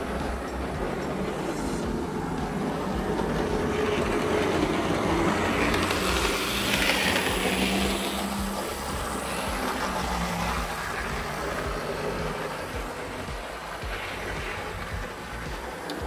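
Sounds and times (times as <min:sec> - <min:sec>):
model train motor humming: 0:00.0 - 0:16.0
model train wheels on rails: 0:00.0 - 0:16.0.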